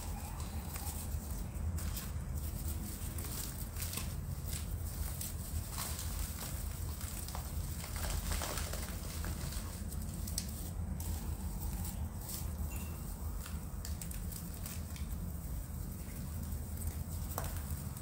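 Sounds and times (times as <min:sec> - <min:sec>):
soil and roots rustling: 0:00.0 - 0:18.0
soil pattering onto sack: 0:00.0 - 0:18.0
steady low rumble: 0:00.0 - 0:18.0.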